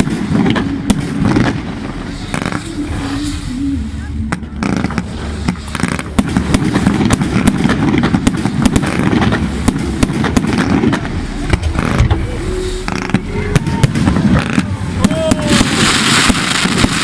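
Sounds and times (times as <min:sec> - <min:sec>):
fireworks bangs and cracks: 0:00.0 - 0:03.4, 0:04.3 - 0:12.2, 0:12.9 - 0:17.0
low rumble: 0:00.0 - 0:17.0.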